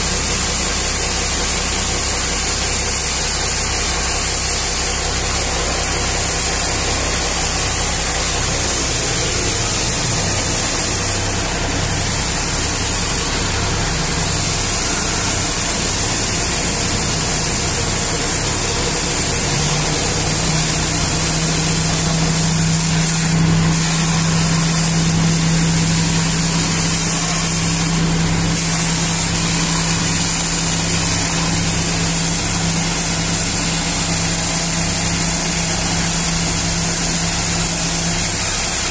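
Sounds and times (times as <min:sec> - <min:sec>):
engine running: 0:00.0 - 0:38.9
water jet blasting on tyre: 0:00.0 - 0:38.9.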